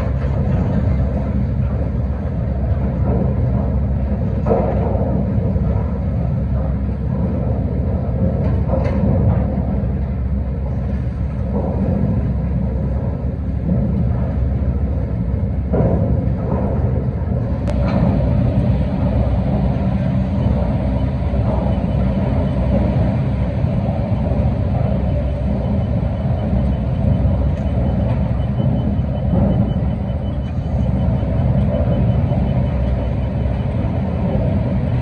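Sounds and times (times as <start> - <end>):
heavy machinery rumbling: 0.0 - 35.0.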